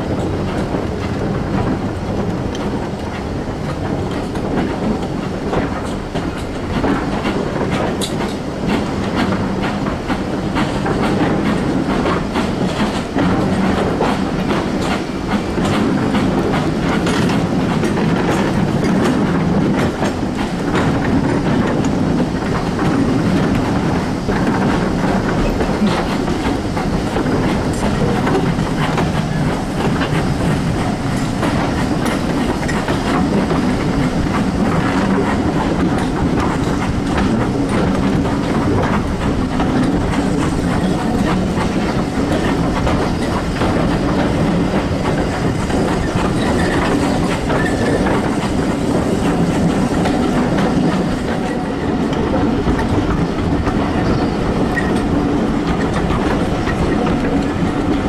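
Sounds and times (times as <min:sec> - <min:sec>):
steam train running at speed: 0:00.0 - 0:58.0
wheels clattering over rail joints: 0:00.0 - 0:58.0.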